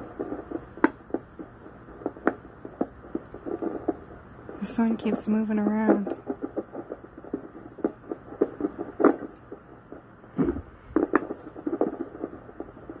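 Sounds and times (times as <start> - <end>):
fetal heartbeat whooshing thumps: 0.0 - 13.0.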